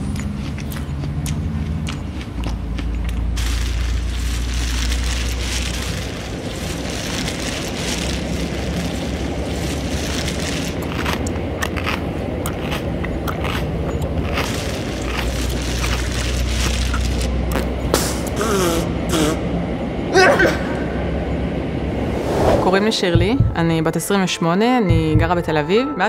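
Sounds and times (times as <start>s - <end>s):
tram rumbling: 0.0s - 25.9s.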